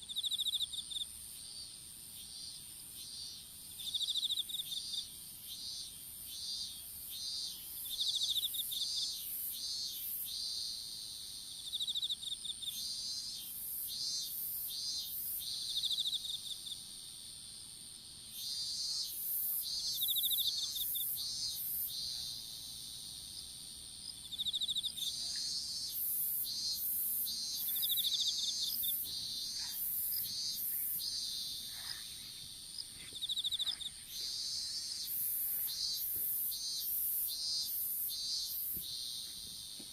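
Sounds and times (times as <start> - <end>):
insects high-pitched drone: 0.0 - 17.0, 18.3 - 39.9
insects chirping and trilling: 0.0 - 39.9.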